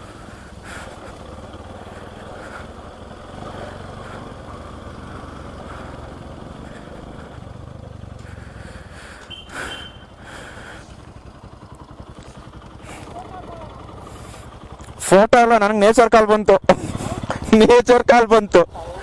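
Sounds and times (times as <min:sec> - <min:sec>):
motorcycle engine idling low: 0:00.0 - 0:19.0.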